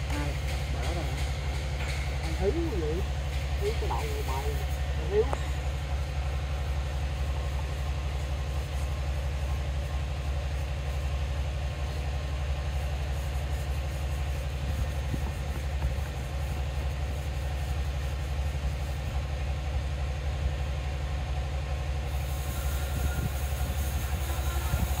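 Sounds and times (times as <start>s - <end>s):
machine engine droning: 0.0s - 25.0s.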